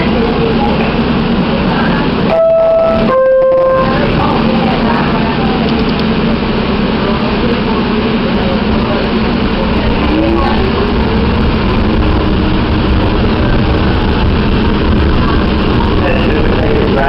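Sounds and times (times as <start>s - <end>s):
train wheels and motors rumbling: 0.0s - 17.0s
train motor whine rising: 0.6s - 17.0s.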